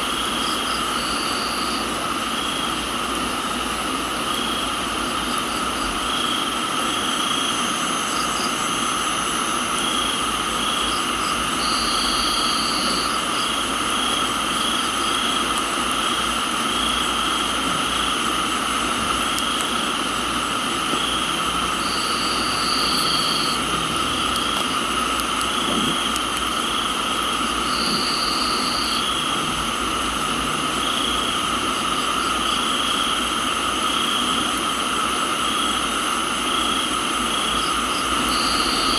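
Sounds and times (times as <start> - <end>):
higher insect trill: 0.0 - 3.1, 3.8 - 38.9
crickets and insects chirping: 0.0 - 38.9
rain hiss: 0.0 - 38.9.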